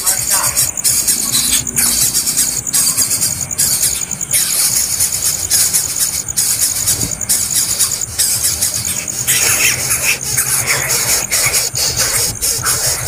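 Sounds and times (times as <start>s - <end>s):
nestling birds begging calls: 0.0s - 13.0s
sharp squealing bird calls: 0.0s - 13.0s.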